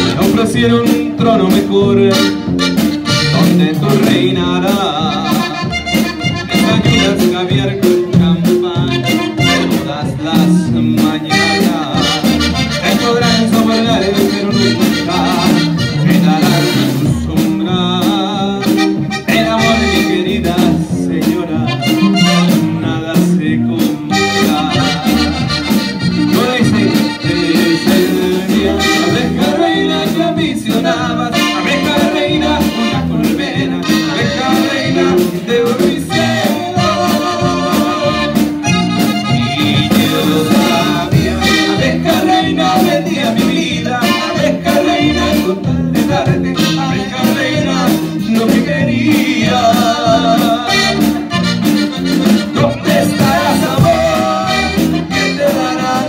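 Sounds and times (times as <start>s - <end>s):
accordion melody: 0.0s - 56.0s
drum kit beat: 0.0s - 56.0s
guitars: 0.0s - 56.0s.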